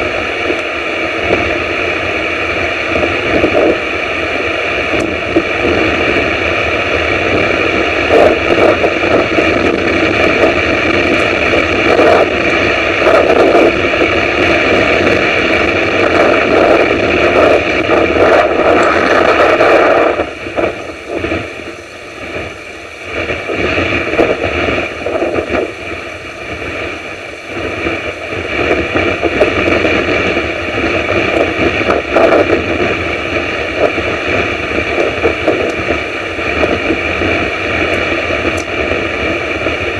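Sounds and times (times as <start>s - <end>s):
gusting storm wind: 0.0s - 39.9s
rain: 0.0s - 39.9s.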